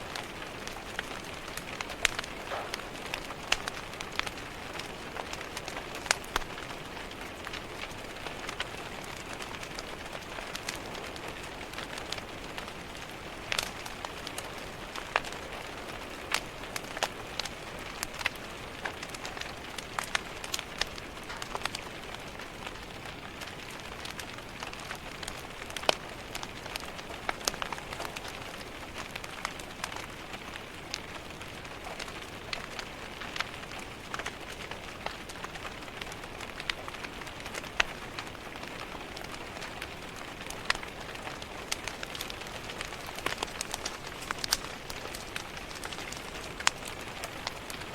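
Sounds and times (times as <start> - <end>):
crackling wood fire: 0.0 - 47.9
steady rain hiss: 0.0 - 47.9.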